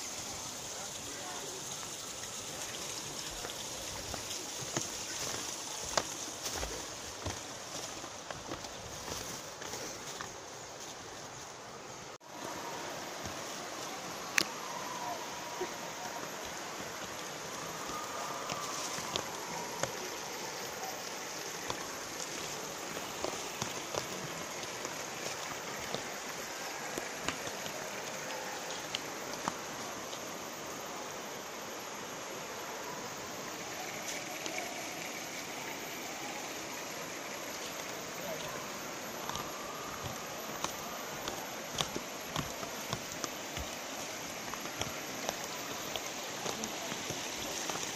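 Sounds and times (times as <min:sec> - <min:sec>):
waterfall and stream rushing: 0:00.0 - 0:47.9.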